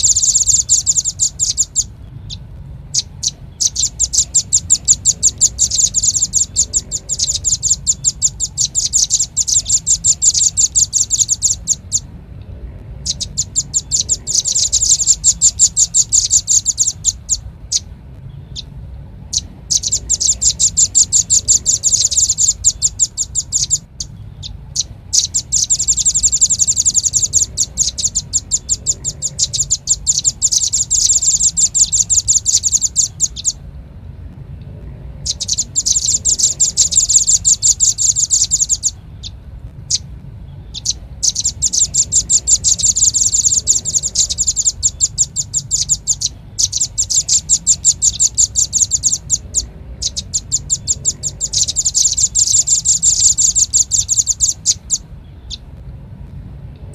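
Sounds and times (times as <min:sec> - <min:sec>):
bird trilling: 0:00.0 - 0:12.2, 0:12.9 - 0:33.6, 0:35.1 - 0:55.7
faint low hum: 0:00.0 - 0:56.9.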